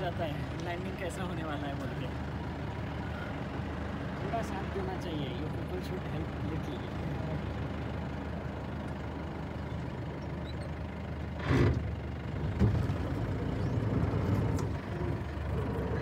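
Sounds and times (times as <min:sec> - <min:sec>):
jeep engine running: 0:00.0 - 0:16.0.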